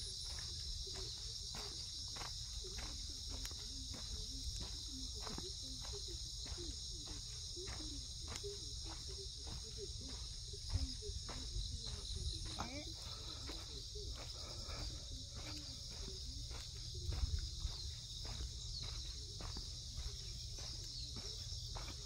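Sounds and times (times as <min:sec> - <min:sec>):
footsteps on dirt path: 0:00.0 - 0:22.0
insects chirping: 0:00.0 - 0:22.0.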